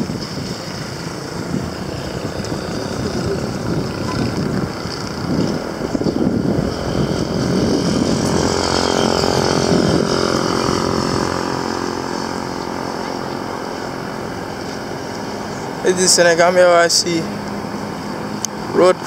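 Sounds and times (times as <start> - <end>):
vehicle engine droning past: 0.3 - 19.0.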